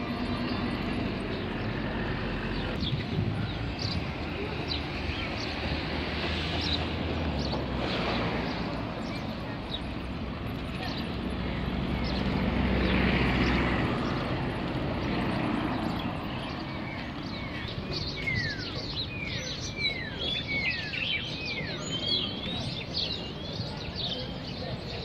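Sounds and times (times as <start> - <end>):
birds chirping: 0.0 - 25.0
street traffic noise: 0.0 - 25.0.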